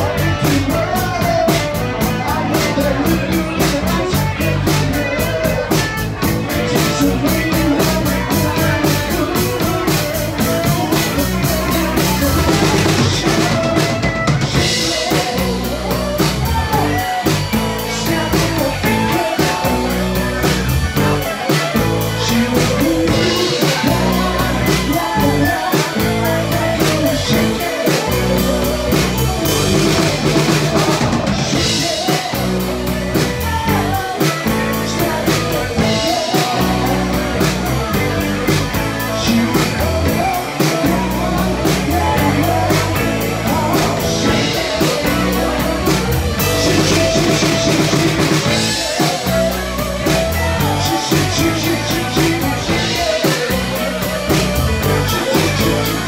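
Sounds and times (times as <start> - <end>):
drum kit beat: 0.0 - 56.0
guitar: 0.0 - 56.0
live rock band playing: 0.0 - 56.0
person singing: 0.0 - 56.0.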